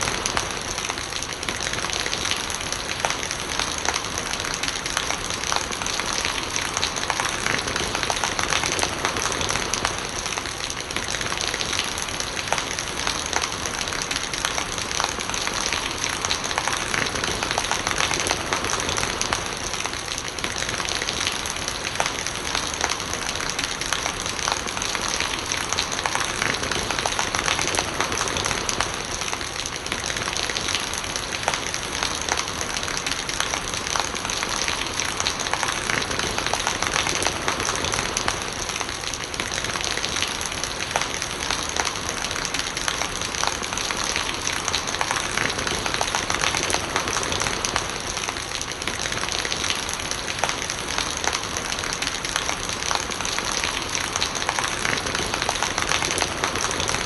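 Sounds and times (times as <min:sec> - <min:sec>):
raindrops pattering: 0:00.0 - 0:57.0
rainwater gurgling: 0:00.0 - 0:57.0.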